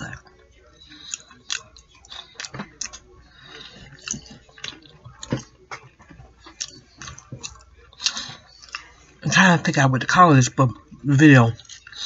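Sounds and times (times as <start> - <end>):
person chewing food: 0.0 - 9.3, 11.6 - 12.0.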